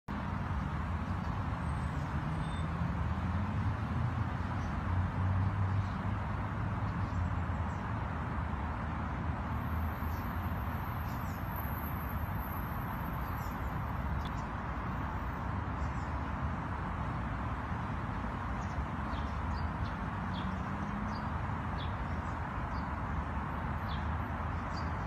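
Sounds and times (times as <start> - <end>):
city traffic hum: 0.1 - 25.0.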